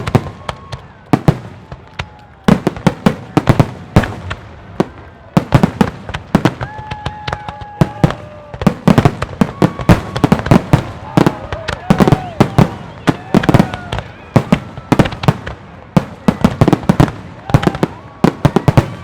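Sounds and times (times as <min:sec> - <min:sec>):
firework bangs and crackles: 0:00.0 - 0:19.0.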